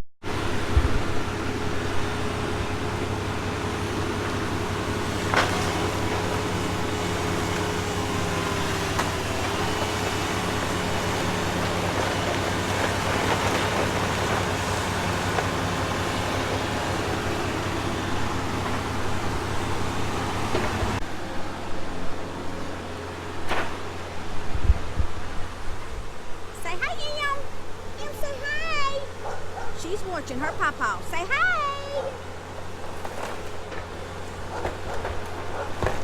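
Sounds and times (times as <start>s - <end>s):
engine humming steadily: 0.2s - 36.0s.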